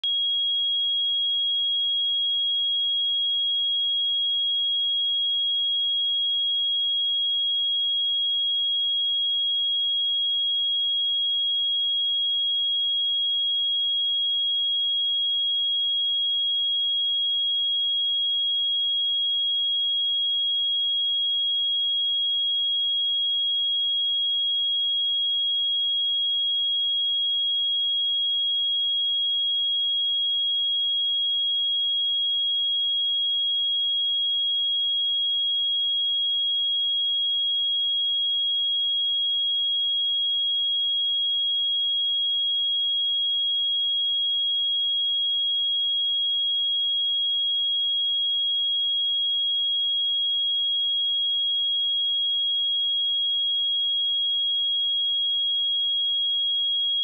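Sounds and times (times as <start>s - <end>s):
sine wave test tone: 0.0s - 57.0s.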